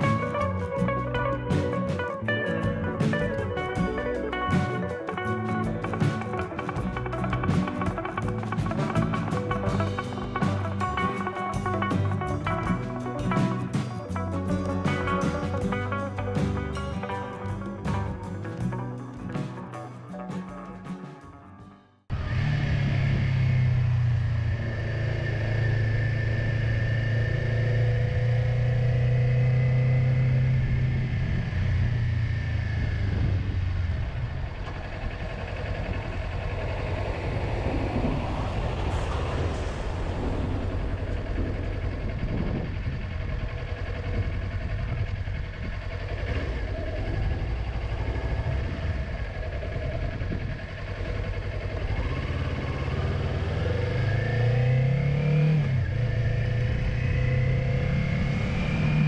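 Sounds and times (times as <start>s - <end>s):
motorcycle engine running: 0.0s - 21.3s, 22.1s - 59.0s.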